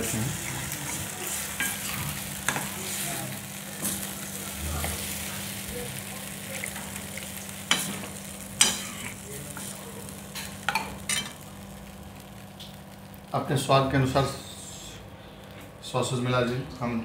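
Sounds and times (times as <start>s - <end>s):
gravy sizzling and bubbling: 0.0s - 17.0s.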